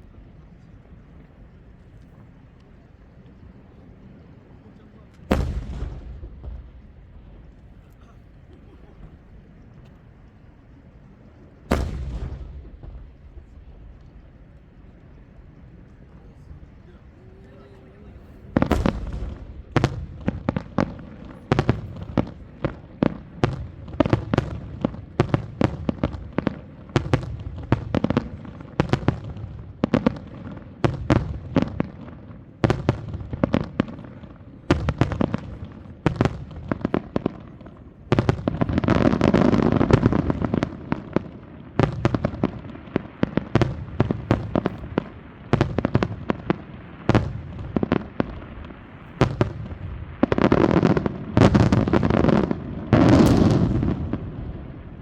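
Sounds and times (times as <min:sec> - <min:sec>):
fireworks bangs: 0:04.1 - 0:55.0.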